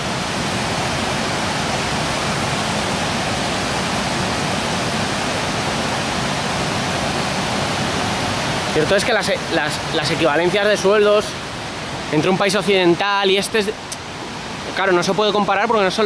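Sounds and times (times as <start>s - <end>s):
stream rushing over stones: 0.0s - 16.0s.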